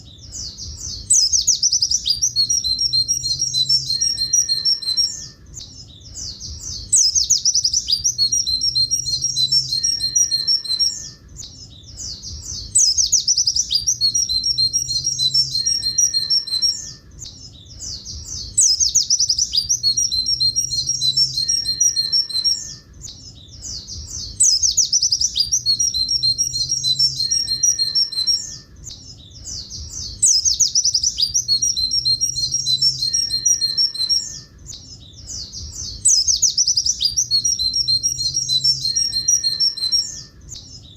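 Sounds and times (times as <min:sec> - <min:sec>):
bird singing high notes: 0:00.0 - 0:40.8.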